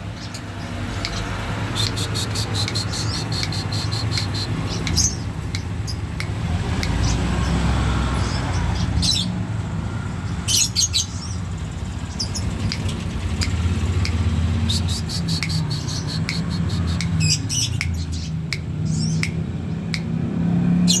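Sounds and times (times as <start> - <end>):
songbird chirping: 0.0 - 9.4, 10.2 - 21.0.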